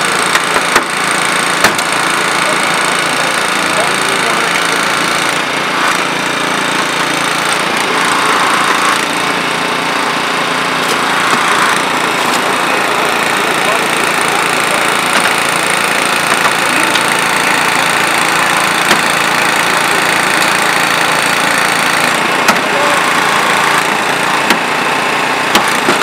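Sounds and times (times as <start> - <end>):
small petrol engine running: 0.0 - 26.0.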